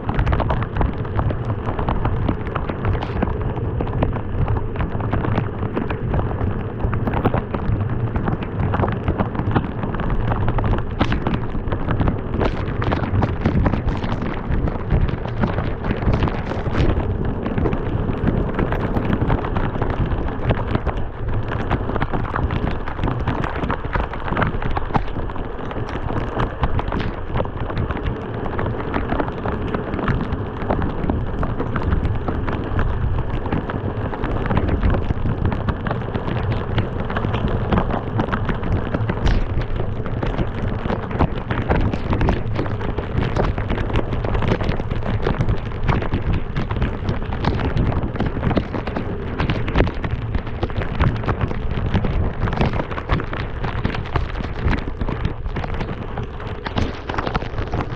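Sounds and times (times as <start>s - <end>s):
heavy rain on a car: 0.0s - 57.9s
road and wind rumble: 0.0s - 57.9s.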